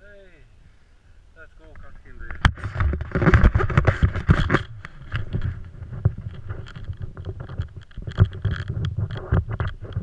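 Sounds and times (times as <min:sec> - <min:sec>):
wind buffeting microphone: 0:01.9 - 0:10.0.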